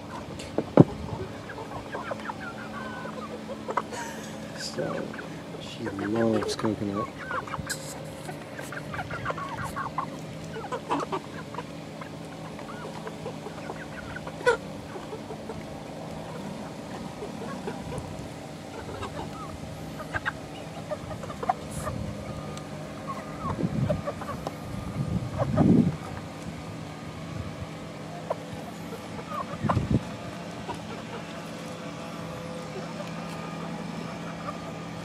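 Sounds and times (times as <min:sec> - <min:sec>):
chickens clucking: 0:00.0 - 0:35.0
steady low hum: 0:00.0 - 0:35.0.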